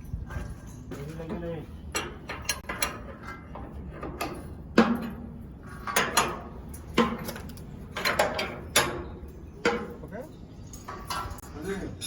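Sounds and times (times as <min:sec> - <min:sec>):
metal knocks and scrapes: 0:00.0 - 0:10.1, 0:10.8 - 0:11.6.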